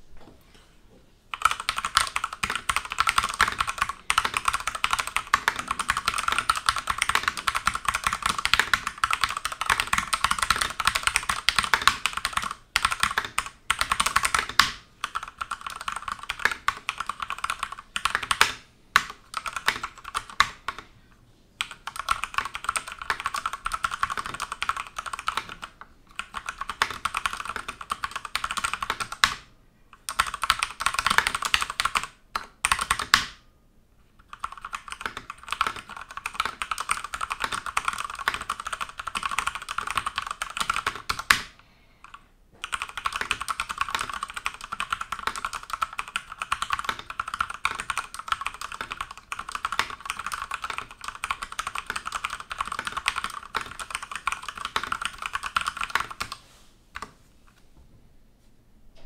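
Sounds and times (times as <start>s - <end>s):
rapid mechanical keyboard typing: 1.3s - 20.8s, 21.6s - 29.4s, 30.0s - 33.4s, 34.2s - 56.4s.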